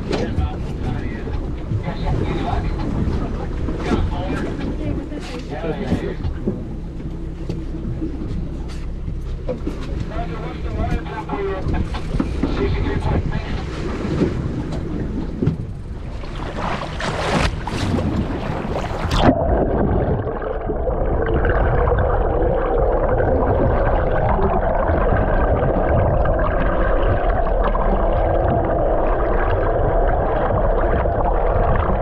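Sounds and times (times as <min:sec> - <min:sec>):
muffled underwater rush and gurgle: 0:00.0 - 0:32.0
steady hum: 0:00.0 - 0:32.0
wind and water on boat deck: 0:00.0 - 0:32.0.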